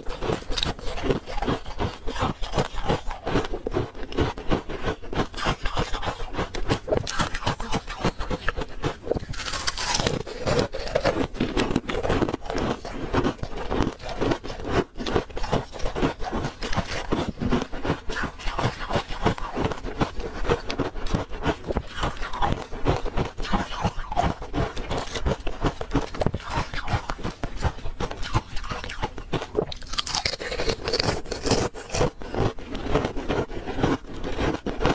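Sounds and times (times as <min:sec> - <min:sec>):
ice being chewed: 0:00.0 - 0:34.9.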